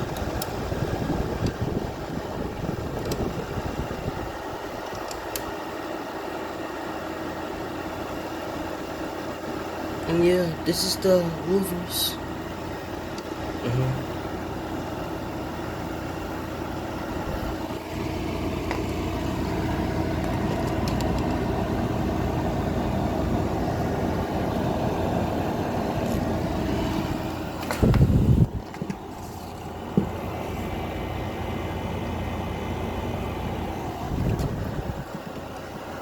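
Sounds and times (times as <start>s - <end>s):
air conditioner humming: 0.0s - 36.0s.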